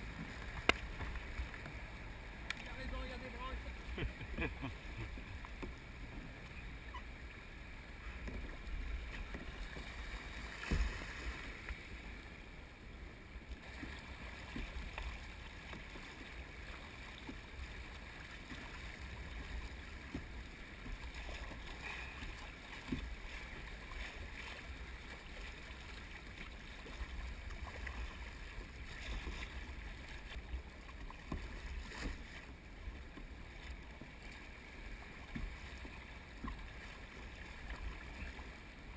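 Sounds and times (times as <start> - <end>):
paddle knocks and splashes: 0.0 - 6.6, 8.0 - 12.0, 13.6 - 38.5
river water rushing and splashing: 0.0 - 38.9.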